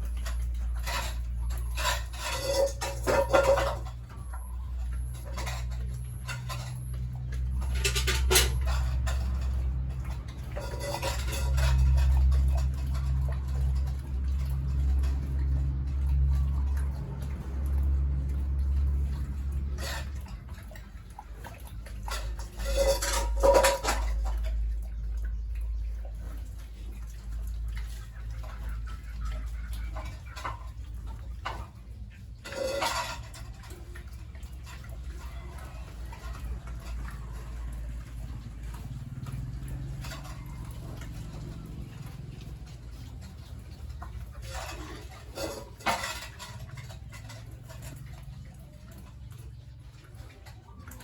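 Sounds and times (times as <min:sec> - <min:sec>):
metallic clattering and scraping: 0:00.0 - 0:51.0.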